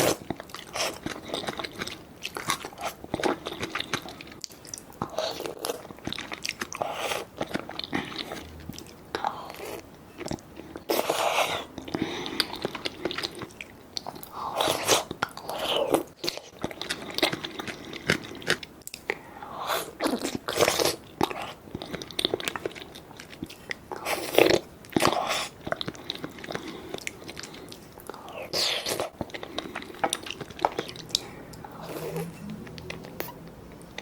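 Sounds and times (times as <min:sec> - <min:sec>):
person chewing: 0:00.0 - 0:34.0.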